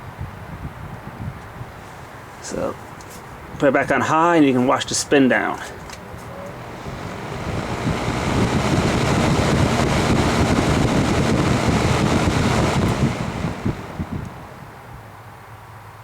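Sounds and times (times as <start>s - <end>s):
box fan running: 1.2s - 15.2s.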